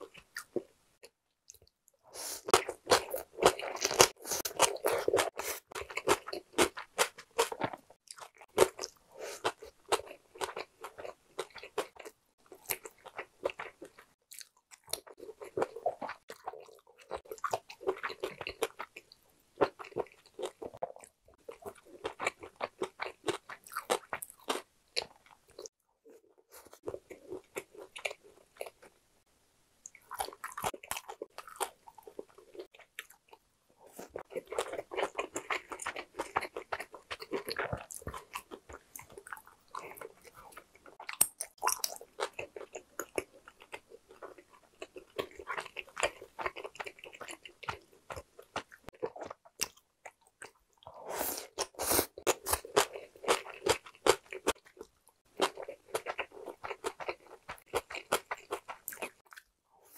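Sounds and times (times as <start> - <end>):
close-miked chewing: 0.0 - 29.0, 29.8 - 59.9.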